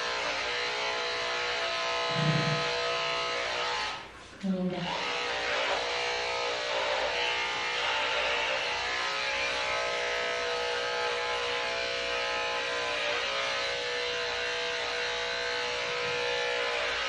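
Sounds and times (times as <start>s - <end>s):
electric clippers buzzing: 0.0s - 17.0s.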